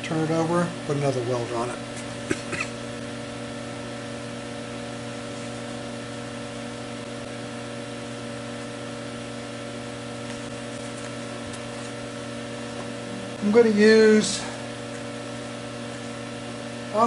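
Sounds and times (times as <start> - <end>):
machine humming with fan-like hiss: 0.0 - 17.0.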